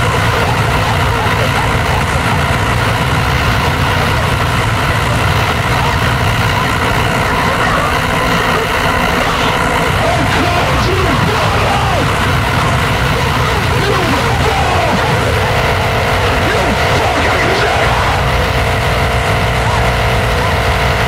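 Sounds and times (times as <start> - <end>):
distorted static: 0.0 - 21.0
heavy low rumble: 0.0 - 21.0.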